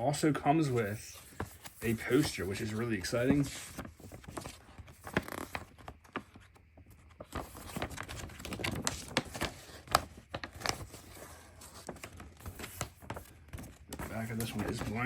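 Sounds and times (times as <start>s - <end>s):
paper rustling and crinkling: 0.5s - 15.0s.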